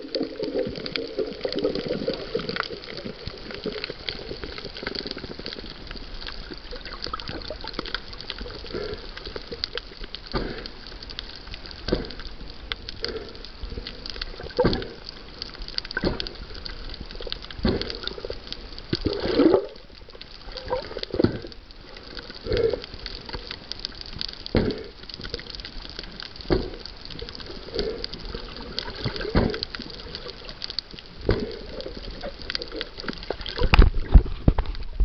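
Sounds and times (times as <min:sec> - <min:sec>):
muffled underwater rush: 0:00.0 - 0:35.0
small underwater clicks and crackles: 0:00.0 - 0:35.0.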